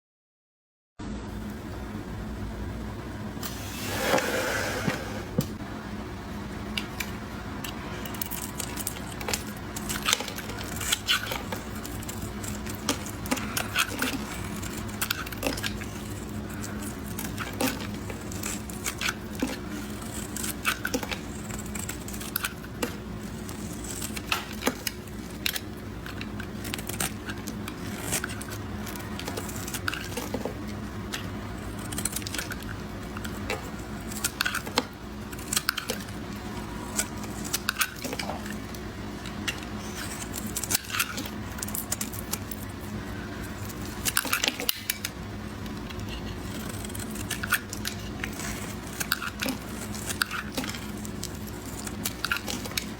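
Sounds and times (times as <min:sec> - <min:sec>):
steady low hum: 0:01.0 - 0:52.9
knife cracking through soap: 0:06.8 - 0:42.7, 0:43.4 - 0:52.9.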